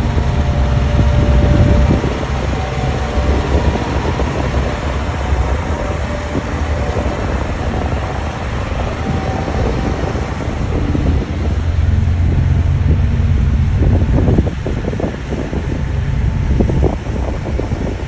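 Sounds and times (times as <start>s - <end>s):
heavy machinery diesel engines rumbling: 0.0s - 18.0s.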